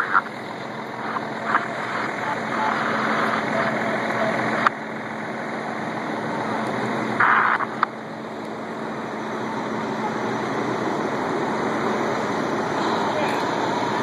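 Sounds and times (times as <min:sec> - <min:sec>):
fire engines running: 0:00.0 - 0:14.0.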